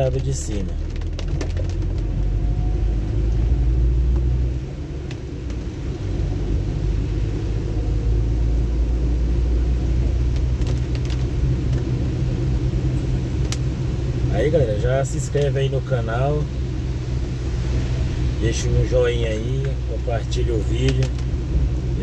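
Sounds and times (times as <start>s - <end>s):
car engine rumble: 0.0s - 22.0s
tyres on wet road: 0.0s - 22.0s.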